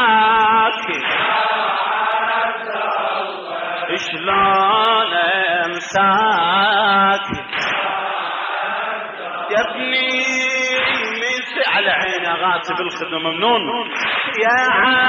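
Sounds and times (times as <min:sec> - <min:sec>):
man singing a lament: 0:00.0 - 0:07.8, 0:09.2 - 0:15.0.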